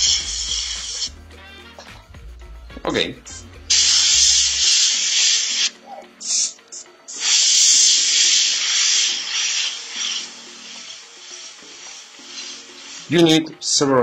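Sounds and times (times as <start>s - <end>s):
airbrush spraying hiss: 0.0s - 1.2s, 3.3s - 13.4s.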